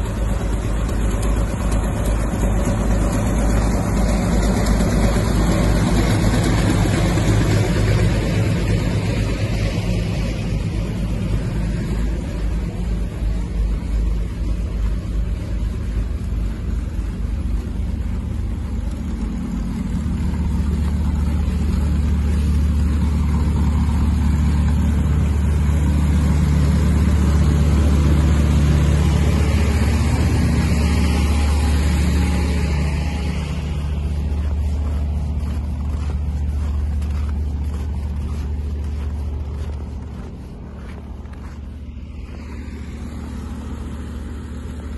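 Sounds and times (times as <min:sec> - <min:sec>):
crawler tractor engine droning: 0:00.0 - 0:44.9.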